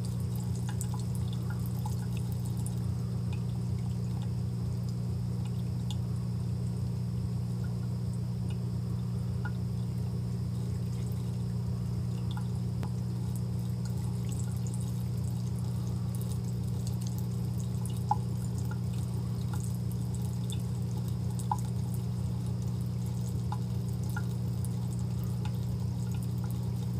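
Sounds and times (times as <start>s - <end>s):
water drips: 0.0s - 6.8s, 7.6s - 8.7s, 9.4s - 26.9s
steady low hum: 0.0s - 26.9s.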